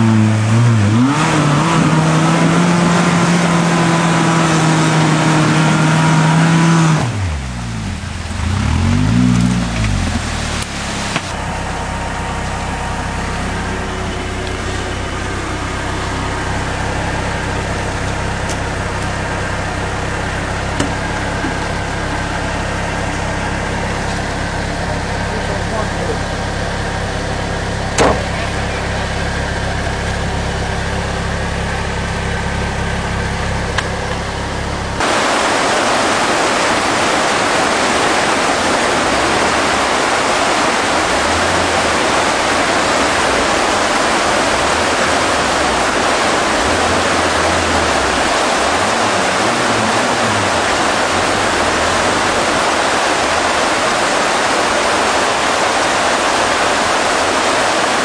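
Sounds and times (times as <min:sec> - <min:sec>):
off-road vehicle engine running: 0:00.0 - 0:58.0
river in flood rushing: 0:00.0 - 0:58.0.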